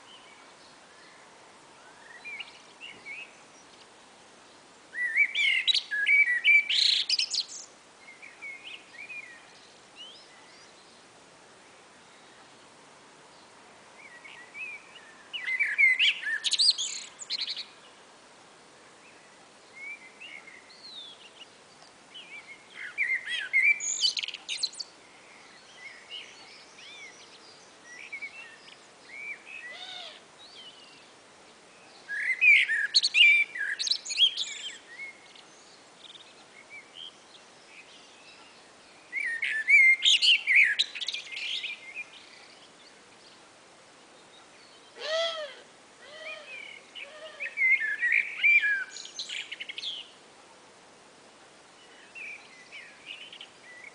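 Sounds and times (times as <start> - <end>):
blackbirds singing: 5.0 - 11.1, 13.3 - 17.9, 19.0 - 50.2, 51.7 - 53.9.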